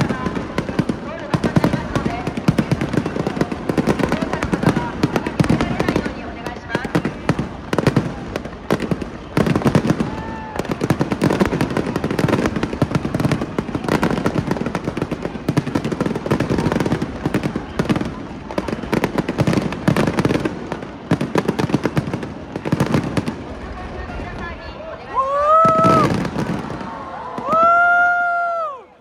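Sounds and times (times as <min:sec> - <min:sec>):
fireworks bangs: 0:00.0 - 0:28.8
fireworks crackling pops: 0:00.0 - 0:28.8.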